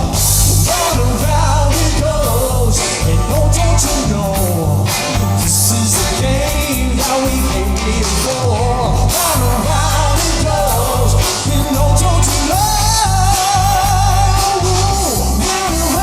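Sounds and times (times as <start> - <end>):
person singing: 0.0 - 16.0
pop-rock band playing: 0.0 - 16.0.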